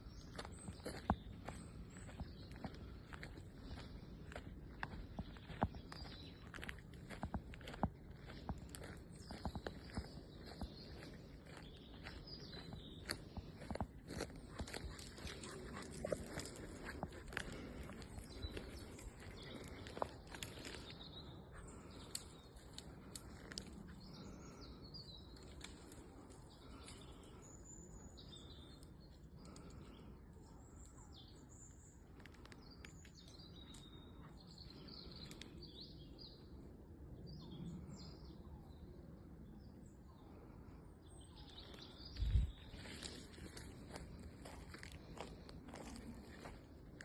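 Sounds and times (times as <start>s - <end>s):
faint outdoor background: 0.0s - 47.0s
small birds chirping: 0.0s - 47.0s.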